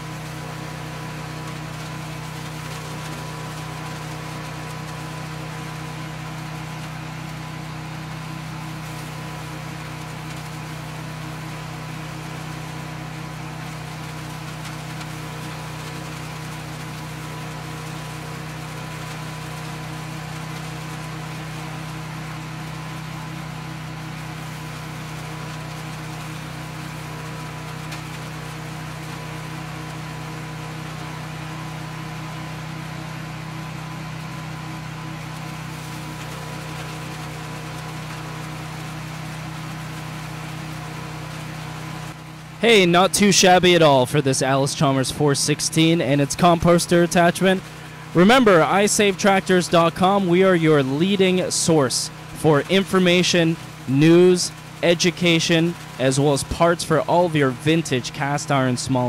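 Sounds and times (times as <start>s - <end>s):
single-cylinder engine running: 0.0s - 59.0s.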